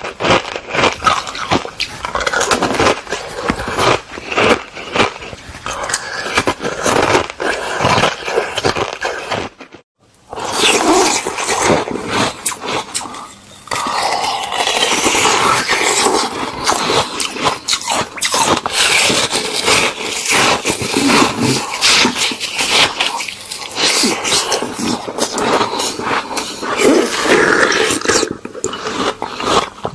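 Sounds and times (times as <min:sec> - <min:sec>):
chewing and crunching ice: 0:00.0 - 0:29.9.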